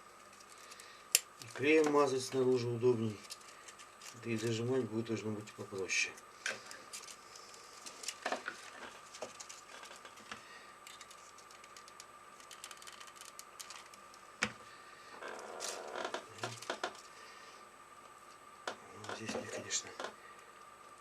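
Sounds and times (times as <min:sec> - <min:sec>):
faint high hum: 0:00.0 - 0:21.0.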